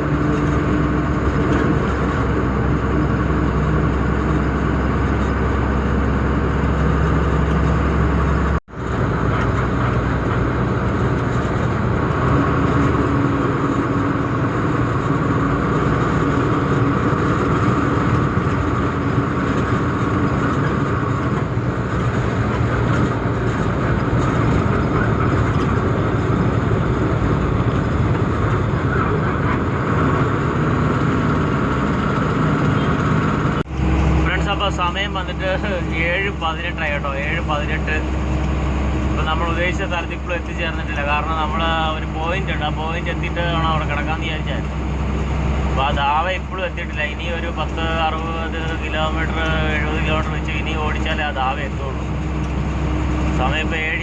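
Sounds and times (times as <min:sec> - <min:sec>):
road noise: 0:00.0 - 0:54.0
truck diesel engine: 0:00.0 - 0:54.0.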